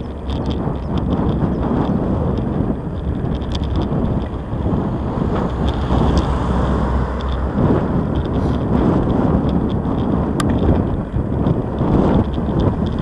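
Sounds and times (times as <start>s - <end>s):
small rattling clicks: 0.0s - 13.0s
tyre and road noise: 0.0s - 13.0s
wind rumbling on microphone: 0.0s - 13.0s.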